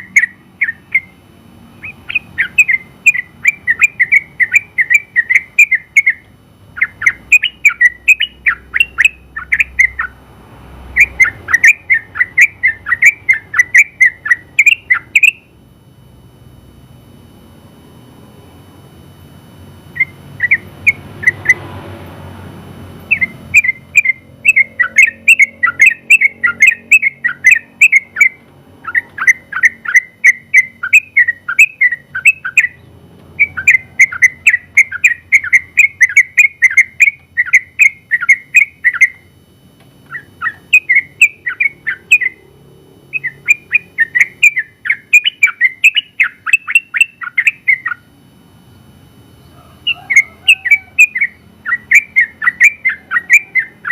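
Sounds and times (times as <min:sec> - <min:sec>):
bird chattering song: 0:00.0 - 0:01.2, 0:01.8 - 0:10.2, 0:10.9 - 0:15.5, 0:19.9 - 0:21.7, 0:23.1 - 0:39.2, 0:40.0 - 0:42.4, 0:43.1 - 0:48.0, 0:49.4 - 0:53.9.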